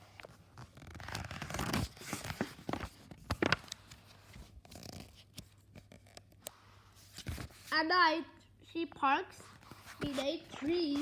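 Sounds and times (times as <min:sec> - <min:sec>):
paper page turning: 0:00.2 - 0:07.7, 0:09.4 - 0:11.0.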